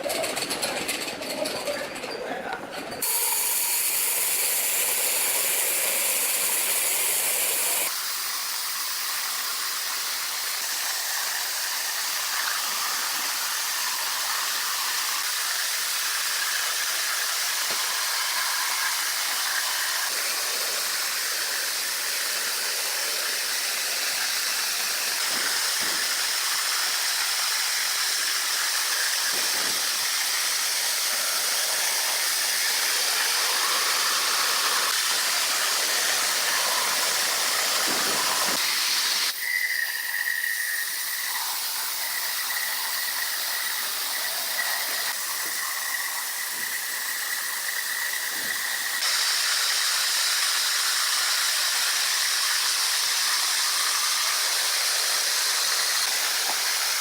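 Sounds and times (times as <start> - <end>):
steady high hissing noise: 3.0 - 57.0.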